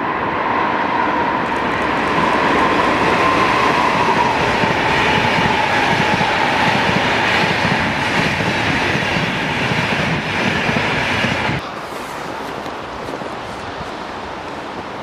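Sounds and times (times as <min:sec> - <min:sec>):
train coaches rushing past: 0:00.0 - 0:15.0.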